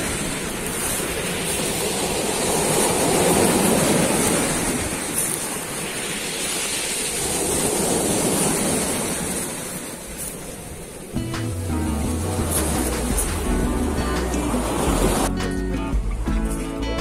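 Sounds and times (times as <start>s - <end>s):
sea waves breaking on beach: 0.0s - 15.3s.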